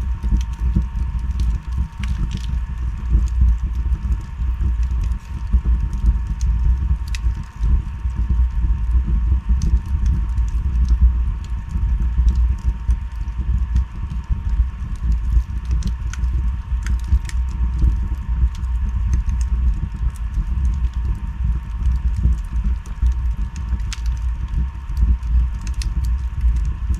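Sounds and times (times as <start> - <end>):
wood fire crackling: 0.1 - 26.9.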